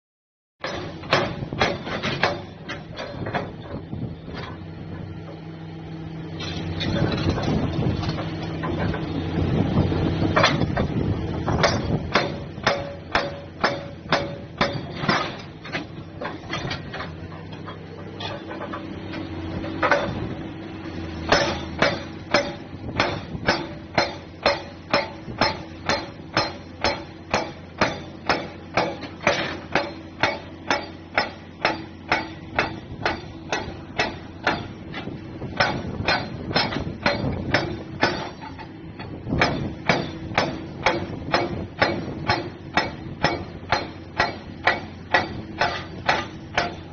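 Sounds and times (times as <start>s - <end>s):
hydraulic breaker hammering rock: 0.6s - 5.4s, 6.4s - 46.9s
diesel engine droning: 0.6s - 46.9s.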